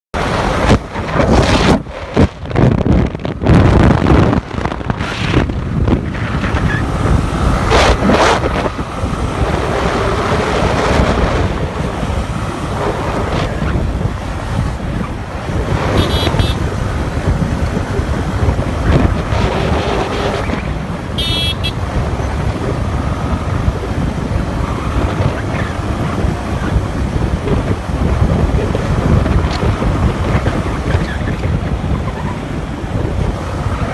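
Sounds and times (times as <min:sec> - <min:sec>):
moving vehicle rumble: 0:00.2 - 0:33.9
wind buffeting microphone: 0:00.2 - 0:33.9.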